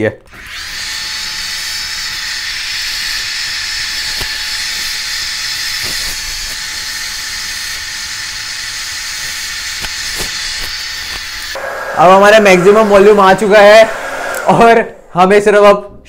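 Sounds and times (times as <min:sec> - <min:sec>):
hair dryer blowing: 0:00.4 - 0:15.7.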